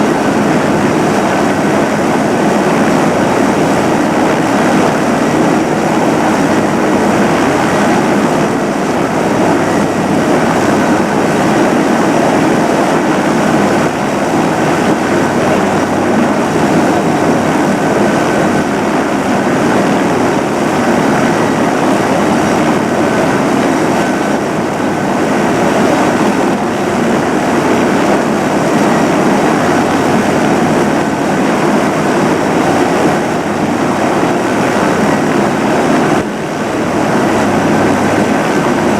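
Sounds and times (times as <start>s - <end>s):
faint high whine: 0.0s - 38.9s
helicopter engine and rotor: 0.0s - 38.9s.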